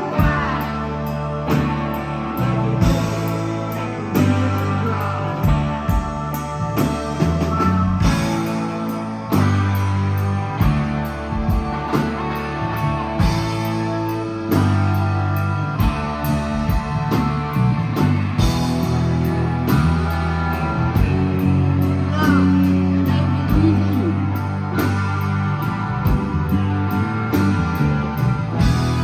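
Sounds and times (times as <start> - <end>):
bass guitar: 0.0 - 29.0
distorted electric guitars: 0.0 - 29.0
drum kit beat: 0.0 - 29.0.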